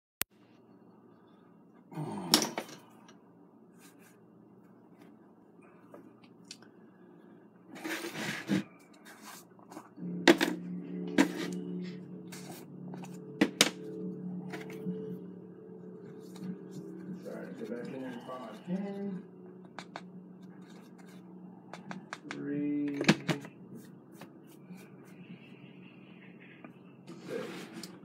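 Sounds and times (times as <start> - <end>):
steady low hum: 0.4 - 28.0.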